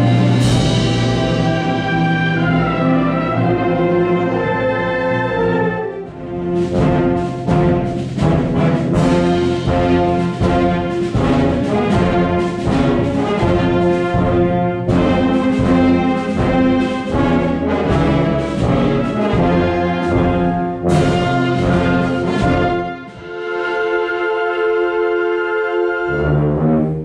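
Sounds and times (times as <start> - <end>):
brass concert band playing: 0.0 - 27.0.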